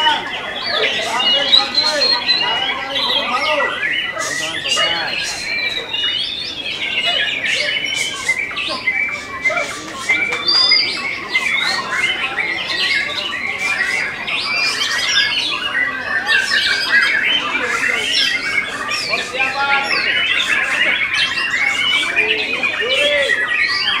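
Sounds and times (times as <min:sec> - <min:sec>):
birds singing whistles and chatter: 0:00.0 - 0:24.0.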